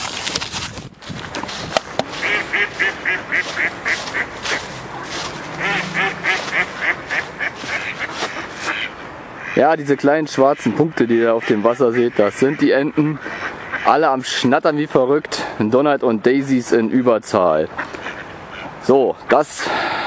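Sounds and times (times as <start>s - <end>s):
ducks quacking: 1.4s - 15.6s, 17.4s - 20.0s.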